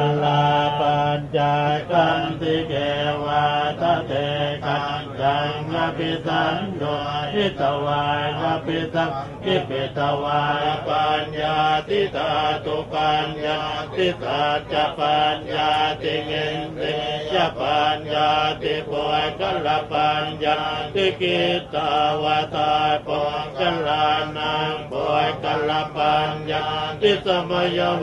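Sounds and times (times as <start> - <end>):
monks chanting in unison: 0.0 - 28.0.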